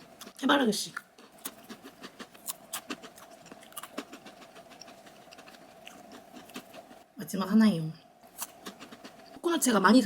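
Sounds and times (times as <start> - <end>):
crunchy chewing of snack: 0.0 - 7.1, 8.3 - 9.5.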